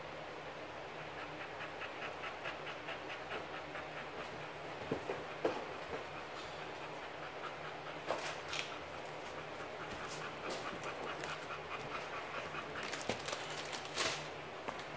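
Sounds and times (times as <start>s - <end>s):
dog panting: 0.8s - 13.9s.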